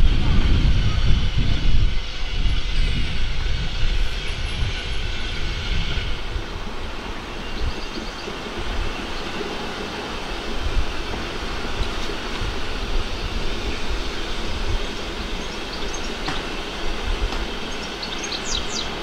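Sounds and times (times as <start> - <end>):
steam train rumbling on track: 0.0 - 19.0.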